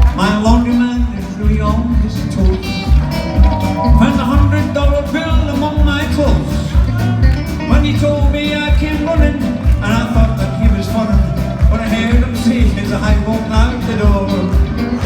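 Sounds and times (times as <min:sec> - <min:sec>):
person singing: 0:00.0 - 0:15.0
upbeat song with bass beat: 0:00.0 - 0:15.0.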